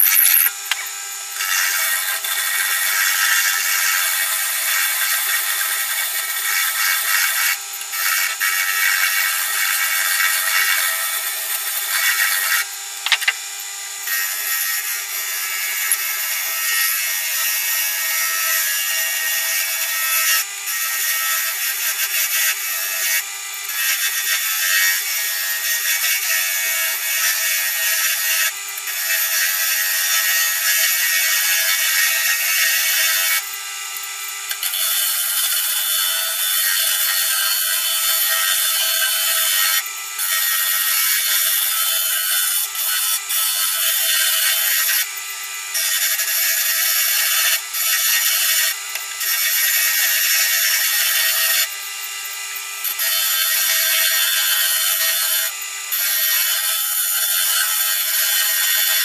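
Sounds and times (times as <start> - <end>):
lathe tool scraping wood: 0.0 - 33.5, 34.5 - 59.0.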